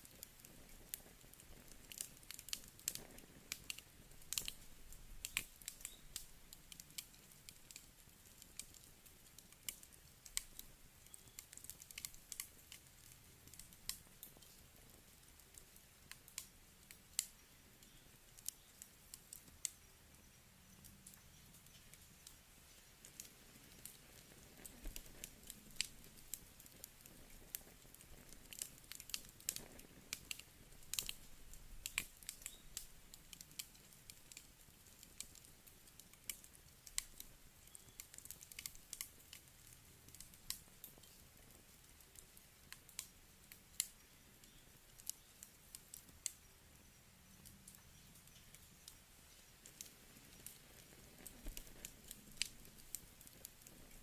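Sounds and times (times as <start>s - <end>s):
campfire crackling: 0.0s - 54.0s
soft hiss of fire: 0.0s - 54.0s.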